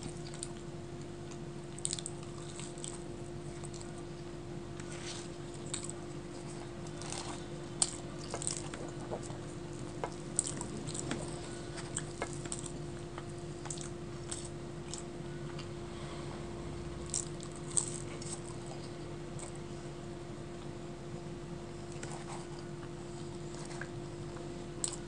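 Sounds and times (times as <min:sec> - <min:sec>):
wet chewing: 0:00.0 - 0:00.7, 0:01.3 - 0:15.7, 0:17.0 - 0:19.7, 0:21.9 - 0:25.0.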